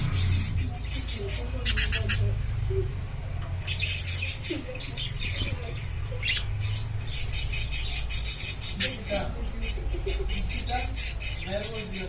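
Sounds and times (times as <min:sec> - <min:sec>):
budgerigars chirping: 0:00.0 - 0:12.0
steady low hum: 0:00.0 - 0:12.0.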